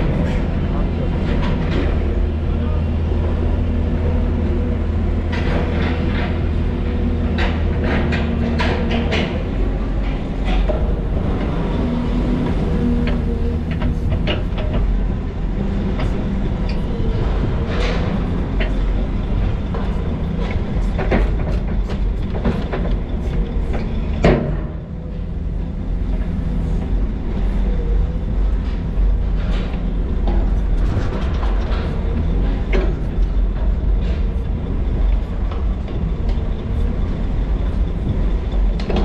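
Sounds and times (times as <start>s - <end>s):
heavy diesel machinery running: 0.0s - 39.0s
metal clanks and knocks: 3.2s - 39.0s.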